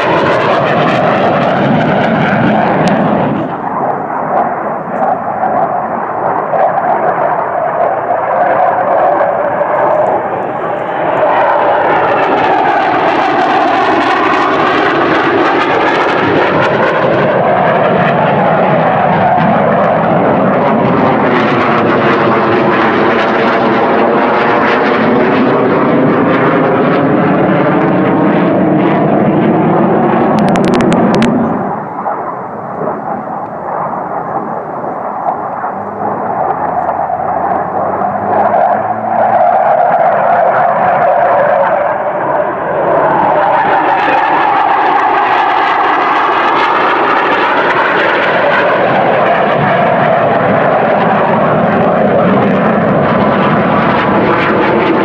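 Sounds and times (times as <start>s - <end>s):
jet flying past: 0.0s - 55.0s.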